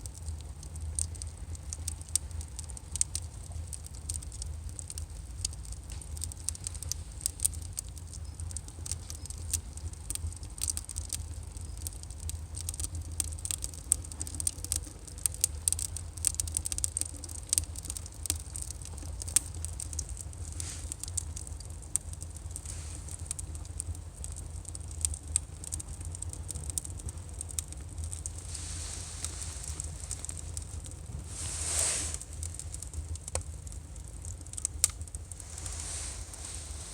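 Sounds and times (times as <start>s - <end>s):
burning firewood crackling: 0.0s - 36.9s.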